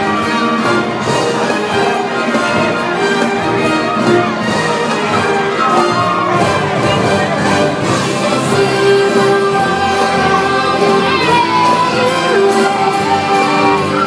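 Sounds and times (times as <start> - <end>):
orchestral parade music: 0.0 - 14.0.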